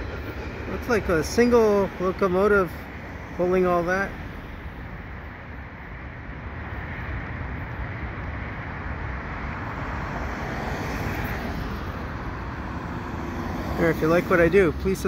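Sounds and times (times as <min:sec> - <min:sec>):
car passing: 0:00.0 - 0:15.0
distant freight train rumbling: 0:00.0 - 0:15.0.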